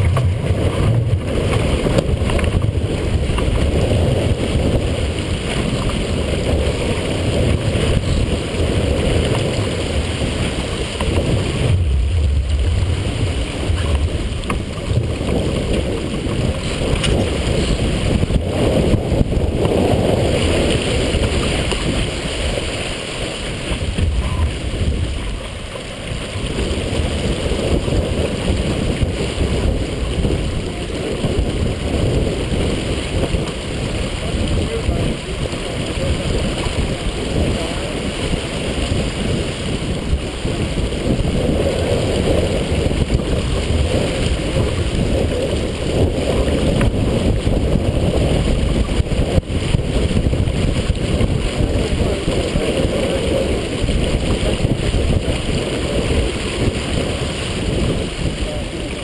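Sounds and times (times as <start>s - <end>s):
water rushing along hull: 0.0s - 59.0s
wind buffeting microphone: 0.0s - 59.0s.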